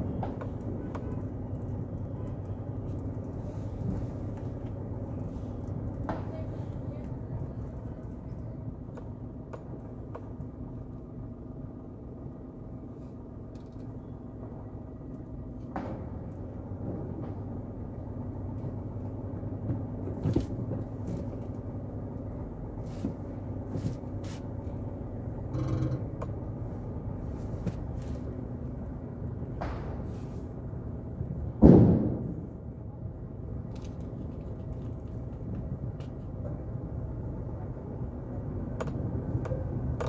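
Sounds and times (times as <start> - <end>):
vehicle rumbling: 0.0 - 40.0.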